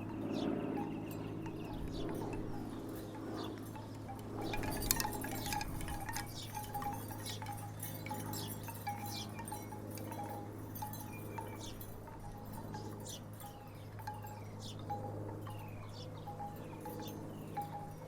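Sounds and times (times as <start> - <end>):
wooden wind chimes clacking: 0.0 - 18.0.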